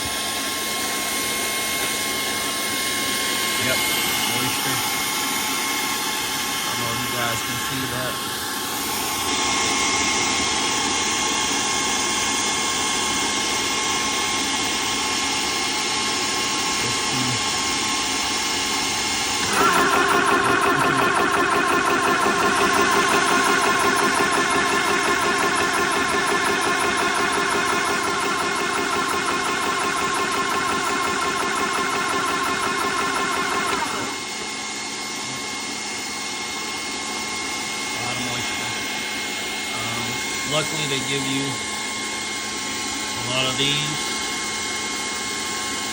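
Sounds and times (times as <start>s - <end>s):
air compressor hissing and whining: 0.0s - 45.9s.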